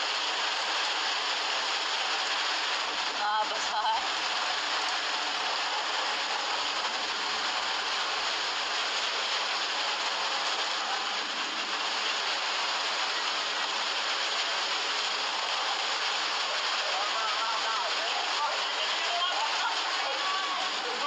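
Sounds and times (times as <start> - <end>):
muddy floodwater rushing: 0.0 - 21.0.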